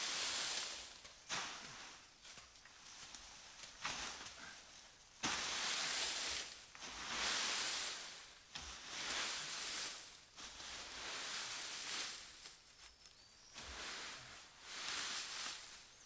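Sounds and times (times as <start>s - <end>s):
dry leaves rustling: 0.0s - 16.0s.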